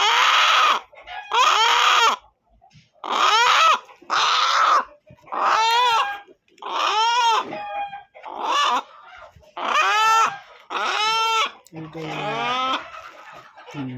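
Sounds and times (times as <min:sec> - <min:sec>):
chicken squawking: 0:00.0 - 0:02.3, 0:03.0 - 0:13.8.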